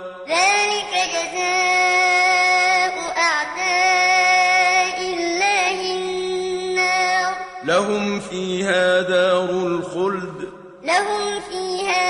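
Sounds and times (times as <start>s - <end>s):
person chanting recitation: 0.0s - 12.0s.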